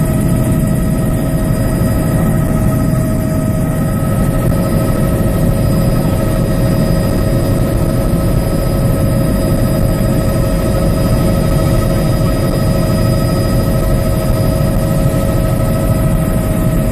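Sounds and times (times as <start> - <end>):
helicopter engine whine: 0.0 - 16.9
low rumble of rotor: 0.0 - 16.9.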